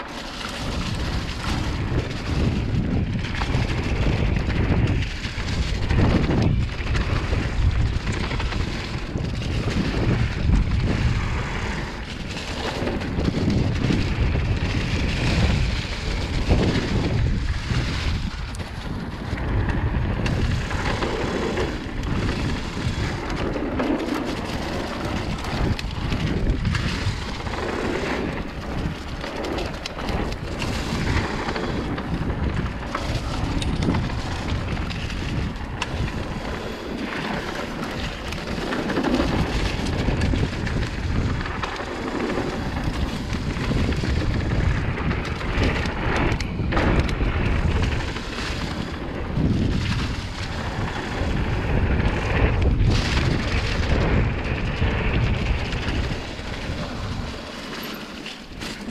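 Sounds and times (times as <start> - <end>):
bike knocking and rattling: 0.0 - 58.9
bike tyres rolling over leaves and dirt: 0.0 - 58.9
wind rushing on microphone: 0.0 - 58.9.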